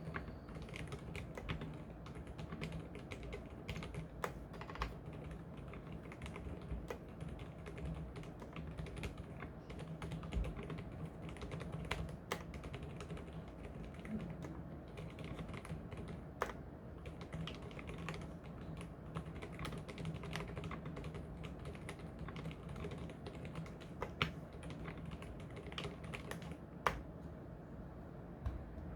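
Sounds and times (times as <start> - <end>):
quiet keyboard keystrokes: 0.0 - 27.3.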